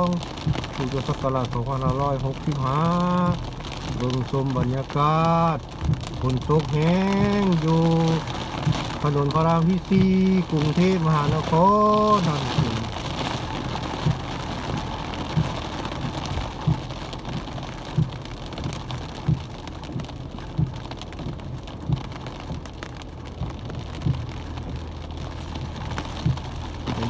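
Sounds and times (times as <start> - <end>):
heavy rain on car roof: 0.0 - 27.0
windshield wipers thumping: 0.0 - 27.0.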